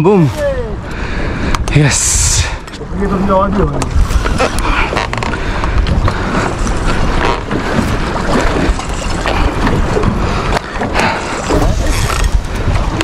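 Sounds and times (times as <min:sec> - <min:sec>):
boat noise: 0:00.0 - 0:13.0
sea wash: 0:00.0 - 0:13.0
wind rumbling on microphone: 0:00.0 - 0:13.0.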